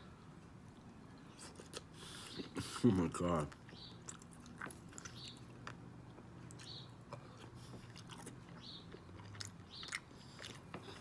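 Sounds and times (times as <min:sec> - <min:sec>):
person chewing close to microphone: 0:00.7 - 0:11.0.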